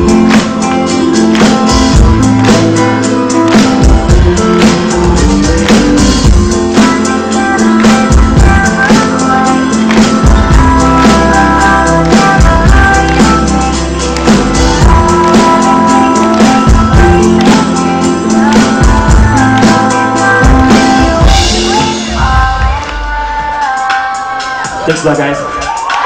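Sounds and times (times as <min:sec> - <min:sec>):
live band music: 0:00.0 - 0:26.0
steady drum beat: 0:00.0 - 0:26.0.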